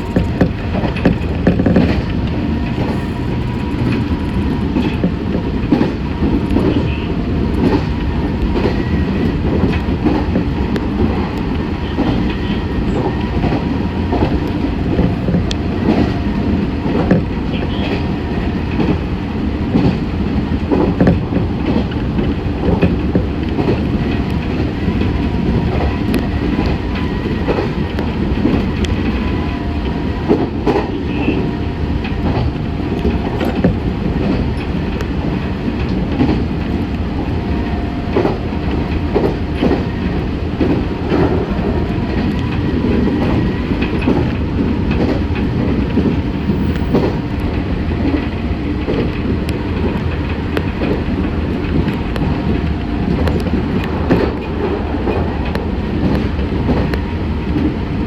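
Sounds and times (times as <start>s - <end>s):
wheels clicking over rail joints: 0.0s - 57.8s
train rumble from inside: 0.0s - 58.0s.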